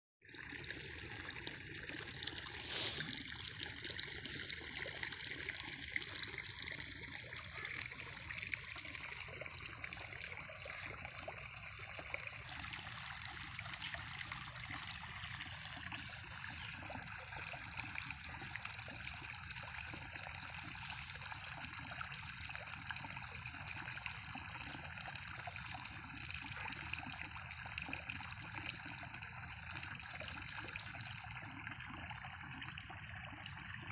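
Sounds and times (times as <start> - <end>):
water trickling: 0.3 - 33.9.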